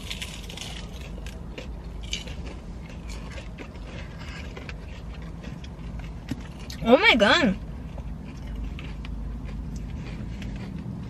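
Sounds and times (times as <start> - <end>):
crunchy biting and chewing: 0.0 - 6.9, 7.6 - 11.0
steady low hum: 0.0 - 11.0.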